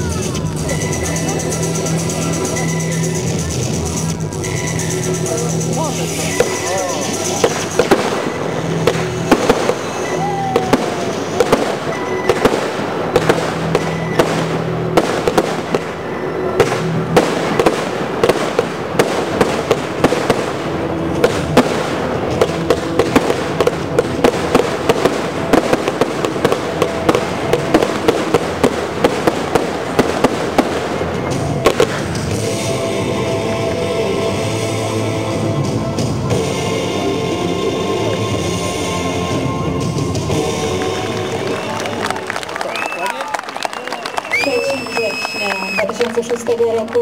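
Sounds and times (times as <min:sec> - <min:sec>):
fireworks bangs and crackles: 0:00.0 - 0:47.0
music playing: 0:00.0 - 0:47.0.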